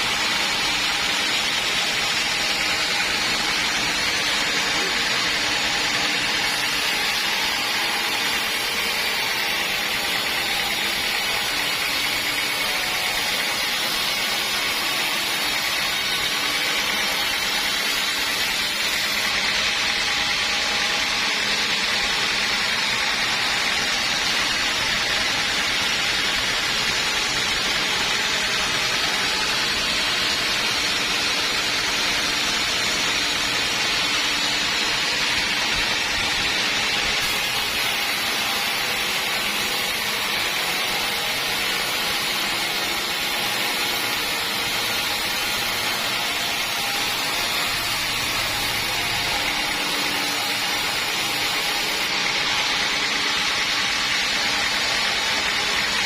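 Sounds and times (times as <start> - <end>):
saw cutting wood: 0.0 - 56.0.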